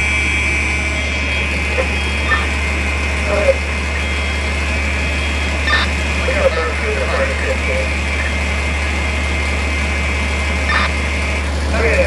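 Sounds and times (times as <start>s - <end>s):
fire engine idling: 0.0s - 12.0s
steady high-pitched tone: 0.0s - 12.0s.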